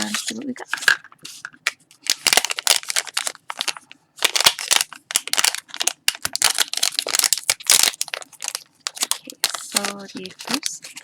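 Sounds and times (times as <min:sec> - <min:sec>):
packaging tearing and crinkling: 0:00.0 - 0:01.0, 0:01.6 - 0:11.0.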